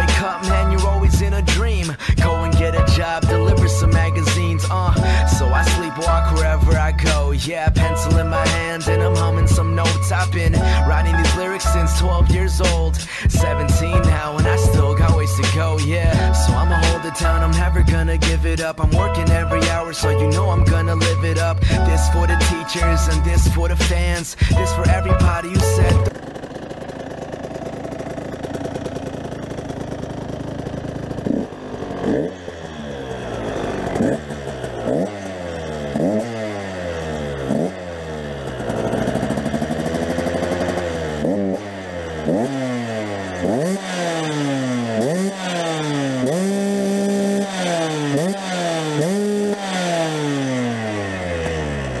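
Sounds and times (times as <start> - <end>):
two-stroke engine revving: 0.0 - 52.0.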